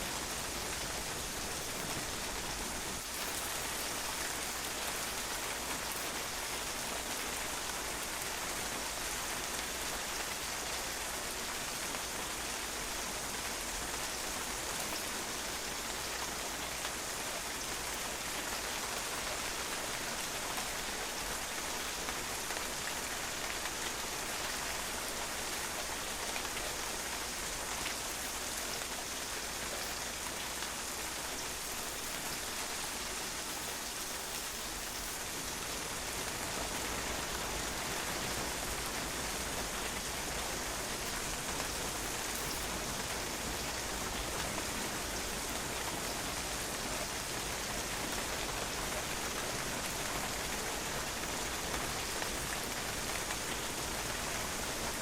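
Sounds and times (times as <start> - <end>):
rain pattering on a patio: 0.0 - 55.0.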